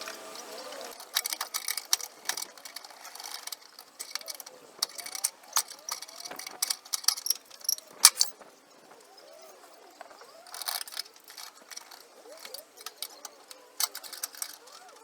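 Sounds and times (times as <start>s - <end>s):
short rattle: 0.9s - 8.4s, 9.6s - 15.0s
metallic clinks and knocks: 1.0s - 15.0s.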